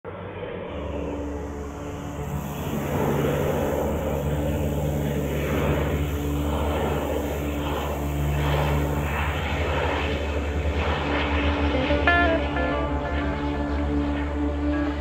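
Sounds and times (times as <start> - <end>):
turboprop engines droning: 0.1 - 15.0.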